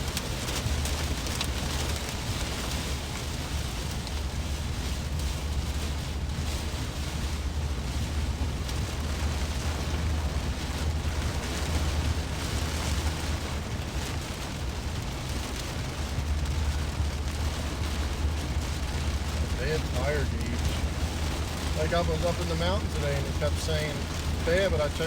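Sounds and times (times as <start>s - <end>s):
car driving at highway speed: 0.0s - 25.0s.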